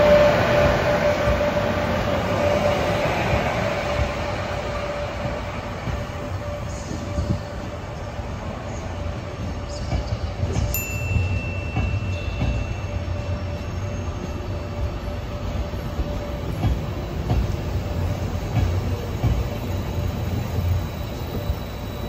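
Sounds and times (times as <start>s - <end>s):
train running on rails: 0.0s - 22.0s.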